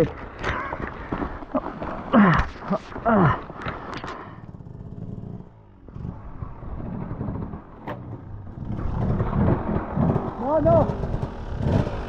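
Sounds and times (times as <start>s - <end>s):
dirt bike engine at low revs: 0.1s - 12.0s.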